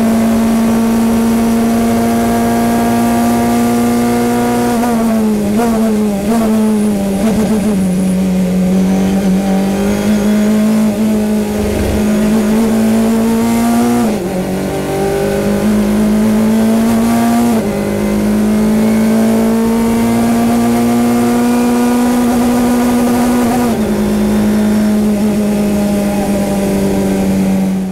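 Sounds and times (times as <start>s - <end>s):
race car engine at full throttle: 0.0s - 27.9s.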